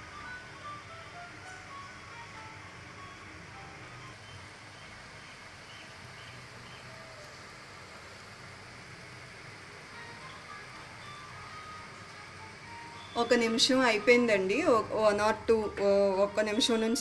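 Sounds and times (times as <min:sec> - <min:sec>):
yam frying in oil sizzling: 0:00.0 - 0:17.0.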